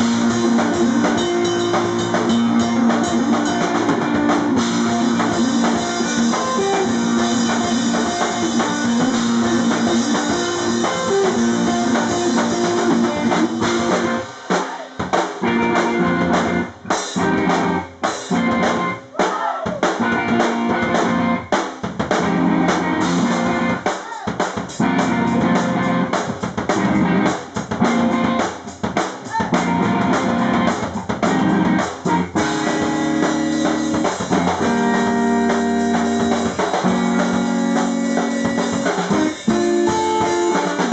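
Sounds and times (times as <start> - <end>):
live rock band playing: 0.0 - 19.2, 19.8 - 40.9.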